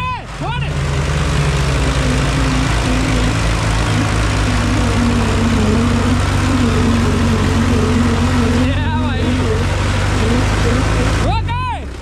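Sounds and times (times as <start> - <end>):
tractor engines under load: 0.0 - 12.0.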